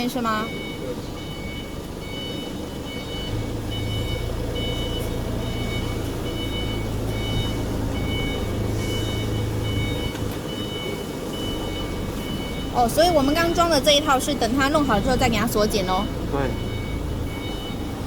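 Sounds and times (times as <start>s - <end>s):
high electronic beep: 0.2s - 17.9s.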